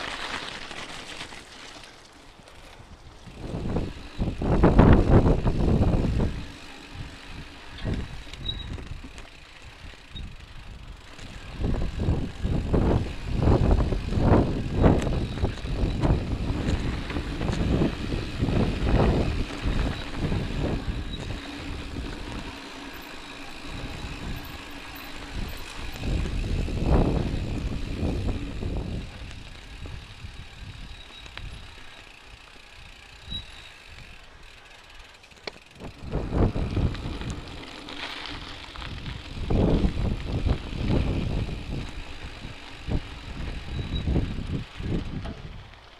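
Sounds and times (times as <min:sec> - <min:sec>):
bike frame rattling: 0:00.0 - 0:45.9
bike tyres rumbling on dirt: 0:00.0 - 0:45.9
wind buffeting microphone: 0:03.0 - 0:31.7, 0:35.7 - 0:45.8.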